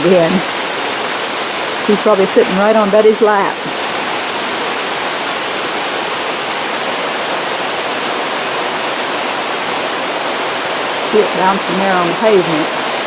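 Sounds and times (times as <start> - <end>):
rain on pavement: 0.0 - 13.0.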